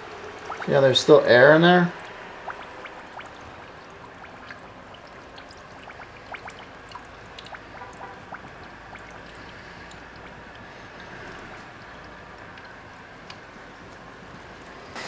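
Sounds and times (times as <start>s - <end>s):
air bubbles popping and dripping: 0.0s - 1.1s, 1.8s - 14.7s
coolant trickling and gurgling: 0.0s - 15.0s.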